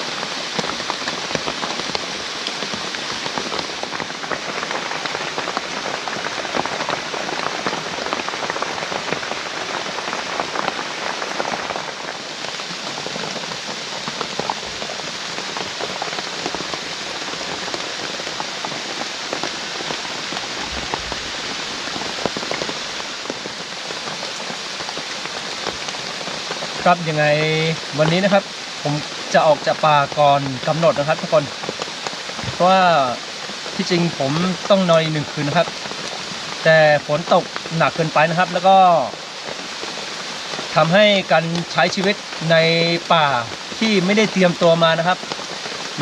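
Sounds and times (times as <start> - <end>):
heavy rain falling: 0.0 - 46.0.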